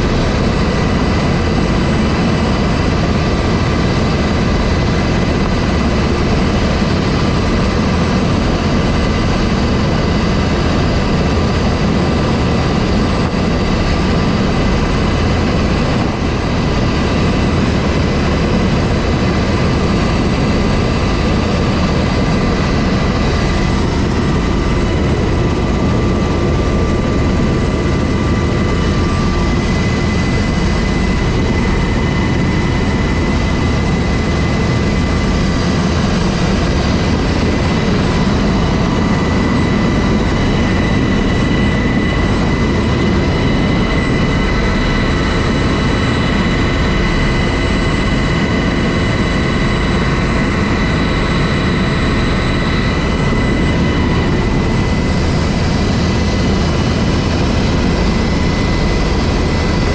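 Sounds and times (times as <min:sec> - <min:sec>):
helicopter rotor low rumble: 0:00.0 - 0:59.9
helicopter turbine whine: 0:00.0 - 0:59.9.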